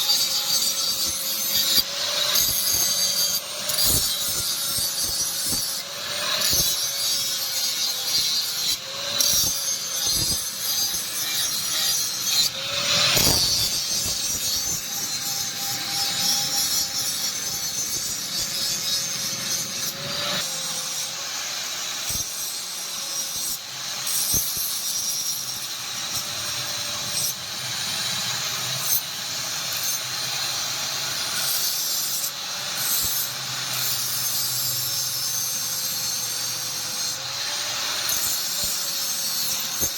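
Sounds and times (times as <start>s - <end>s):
electric grinder on steel: 0.0s - 39.9s.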